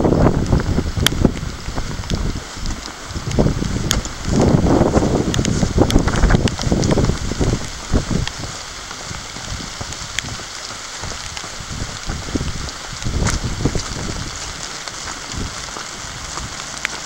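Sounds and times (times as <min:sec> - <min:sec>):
raindrops ticking close by: 0:00.0 - 0:17.0
steady rain falling: 0:00.0 - 0:17.0.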